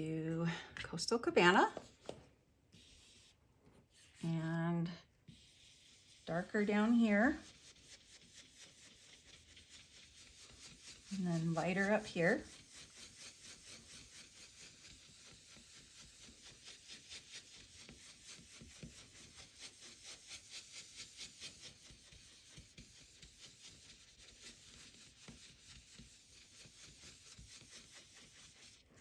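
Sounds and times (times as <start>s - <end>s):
blending brush rubbing cardstock: 1.8s - 29.0s.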